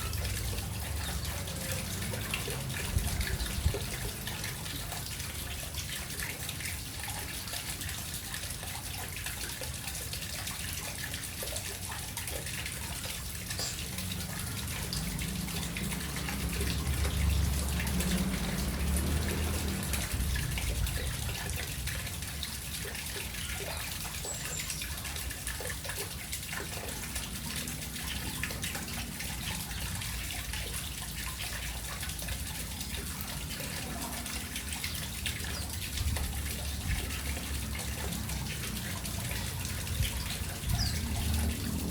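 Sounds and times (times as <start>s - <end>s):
running splashing water: 0.0s - 41.9s.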